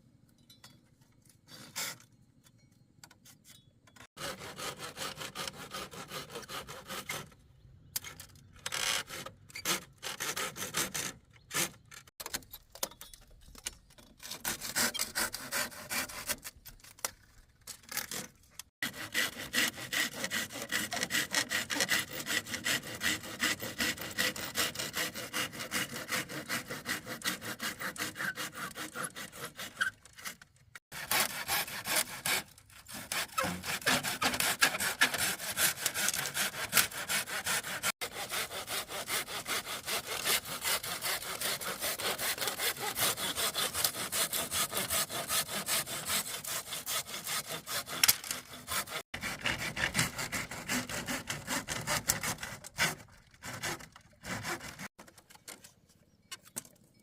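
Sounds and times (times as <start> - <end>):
hand saw cutting wood: 1.3 - 2.1, 4.0 - 7.4, 8.0 - 12.4, 14.0 - 55.6.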